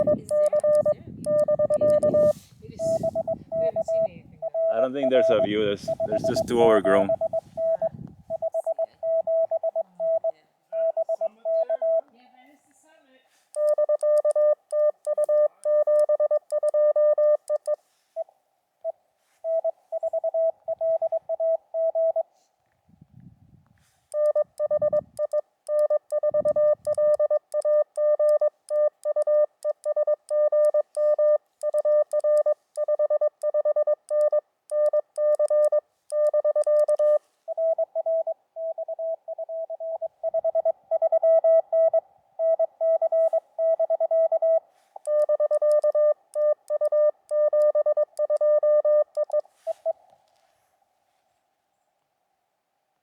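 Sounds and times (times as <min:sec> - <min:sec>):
morse code tones: 0:00.0 - 0:12.1, 0:13.6 - 0:22.3, 0:24.1 - 0:50.0.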